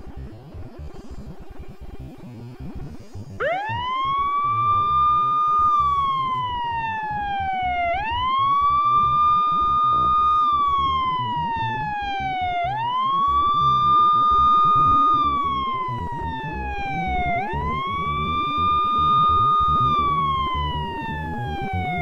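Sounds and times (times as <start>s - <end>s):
siren wailing: 3.4s - 22.0s.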